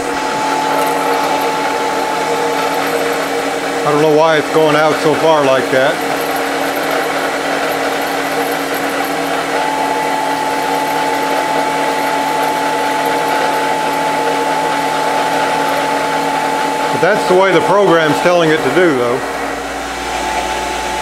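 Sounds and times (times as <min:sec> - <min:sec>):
steady high whine: 0:00.0 - 0:21.0
wood lathe running: 0:00.0 - 0:21.0.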